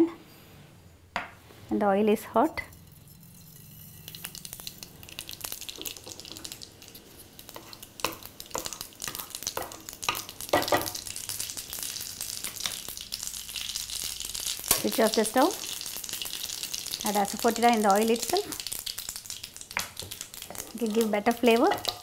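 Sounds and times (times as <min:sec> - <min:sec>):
seeds sizzling in hot oil: 0:02.4 - 0:22.0.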